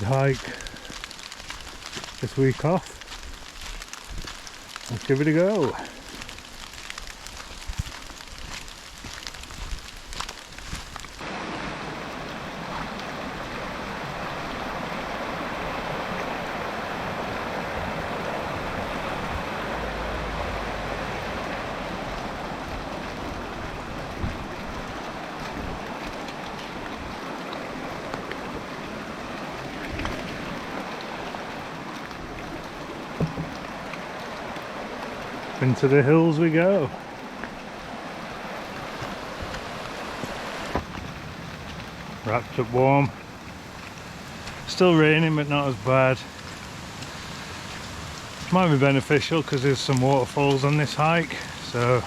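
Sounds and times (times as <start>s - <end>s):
water rushing: 0.0s - 52.0s.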